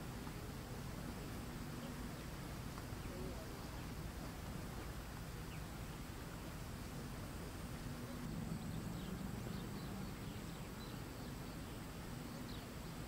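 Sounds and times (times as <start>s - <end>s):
low steady outdoor background: 0.0s - 13.0s.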